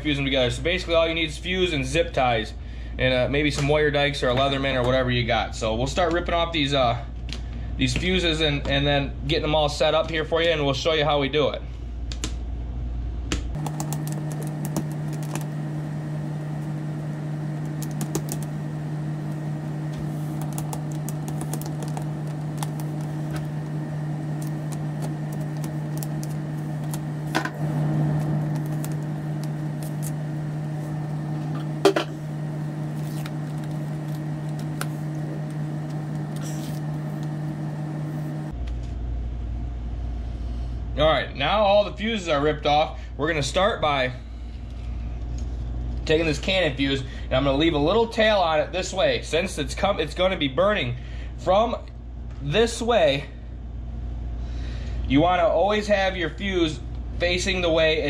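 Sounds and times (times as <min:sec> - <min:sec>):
steady low hum: 0:10.9 - 0:58.0.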